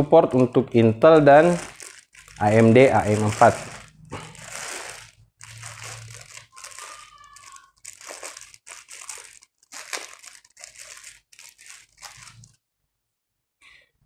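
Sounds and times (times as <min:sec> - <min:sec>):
packaging crinkling and rustling: 0:01.1 - 0:12.6.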